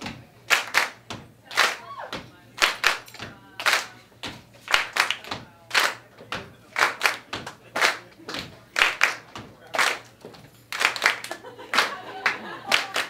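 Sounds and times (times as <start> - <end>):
hand claps and slaps: 0.0 - 13.0.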